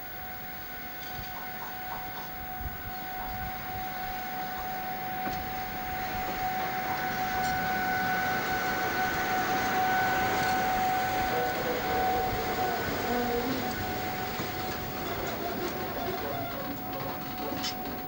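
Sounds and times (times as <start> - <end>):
electric locomotive whine: 0.0 - 18.0
wheels rumbling on rails: 0.0 - 18.0.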